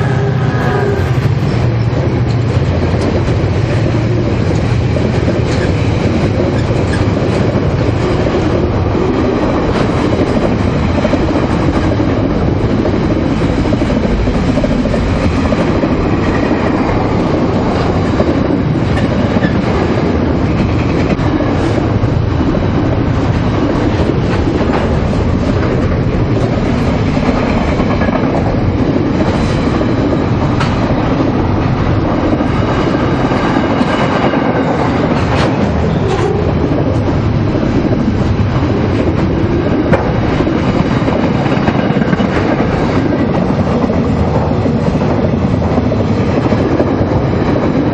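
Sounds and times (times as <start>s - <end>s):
freight train rumbling past: 0.0s - 47.9s
train wheels clattering over rail joints: 1.1s - 47.9s.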